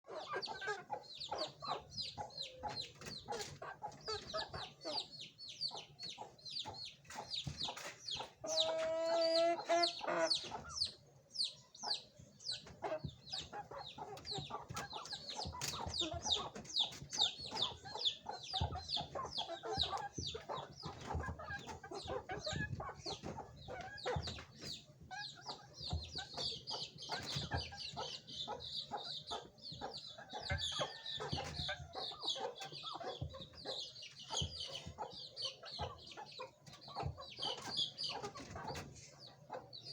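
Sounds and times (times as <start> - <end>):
chickens clucking: 0.1 - 39.9.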